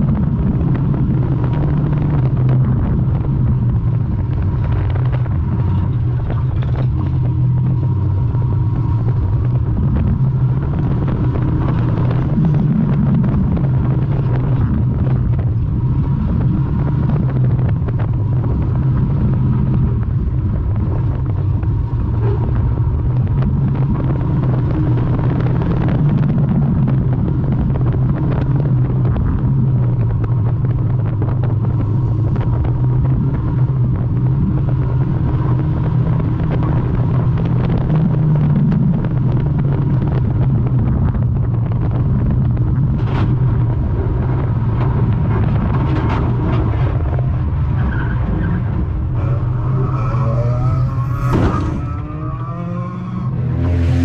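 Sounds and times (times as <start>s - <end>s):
racing car engine running hard: 0.0s - 54.0s.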